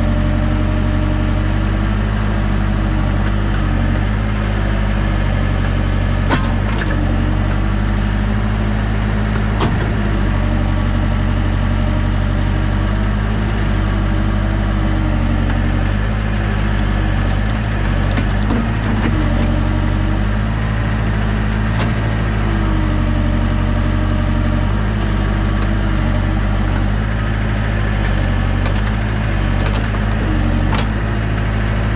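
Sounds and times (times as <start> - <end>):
heavy equipment engine running: 0.0 - 31.9.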